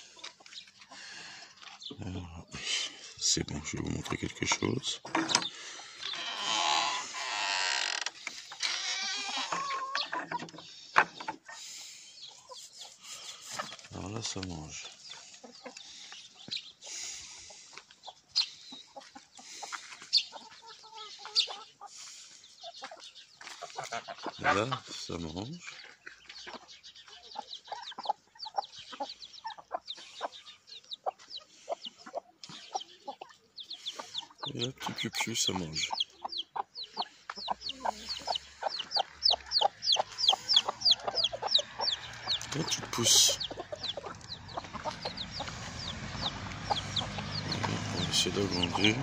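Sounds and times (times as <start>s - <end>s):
hens clucking: 0.0s - 49.0s
chick peeping: 3.4s - 7.2s, 8.4s - 49.0s.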